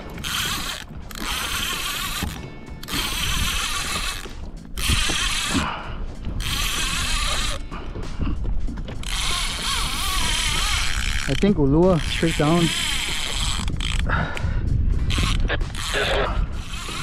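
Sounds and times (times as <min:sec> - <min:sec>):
fishing reel ratcheting: 0:00.0 - 0:07.7, 0:09.0 - 0:14.2, 0:15.1 - 0:17.0.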